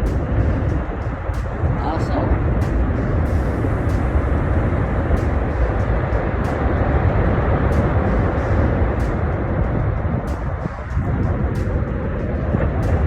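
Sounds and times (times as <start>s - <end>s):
loud low rumbling: 0.0s - 13.0s.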